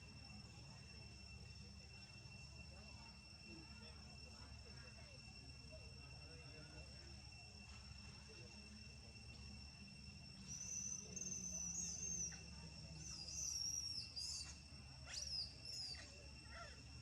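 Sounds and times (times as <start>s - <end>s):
faint high-pitched whine: 0.0s - 17.0s
low hum: 0.0s - 17.0s.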